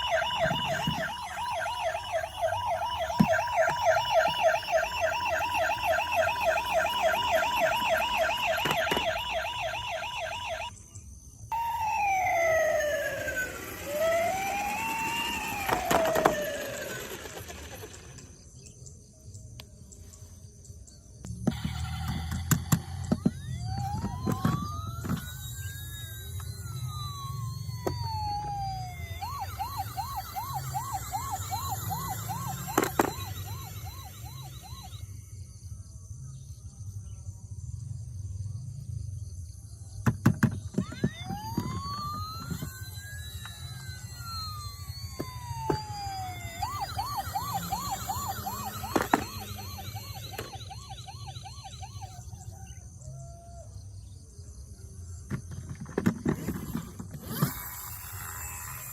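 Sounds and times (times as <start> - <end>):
toy electronic siren: 0.0 - 18.8, 21.2 - 37.2, 39.9 - 58.9.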